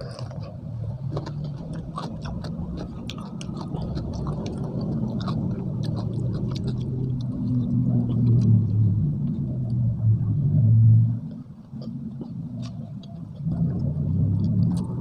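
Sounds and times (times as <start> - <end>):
wet mouth clicks: 0.0 - 9.8, 11.2 - 15.0
close chewing: 0.0 - 15.0
low engine-like rumble: 0.0 - 15.0.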